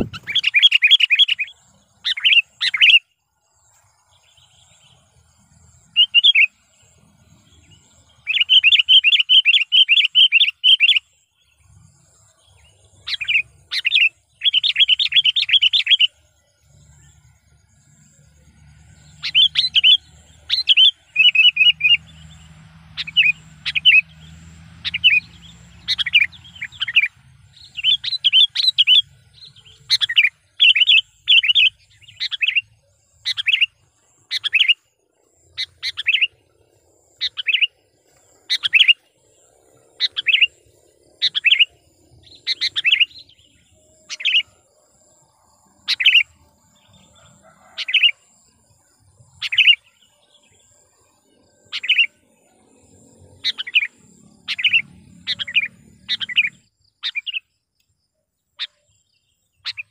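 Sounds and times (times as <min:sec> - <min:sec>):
bird chirping phrases: 0:00.0 - 0:59.9.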